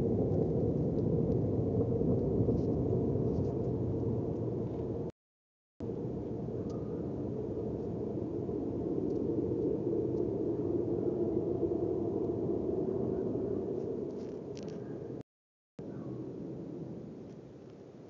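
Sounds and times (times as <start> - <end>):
low roaring rumble: 0.0 - 5.1, 5.8 - 15.2.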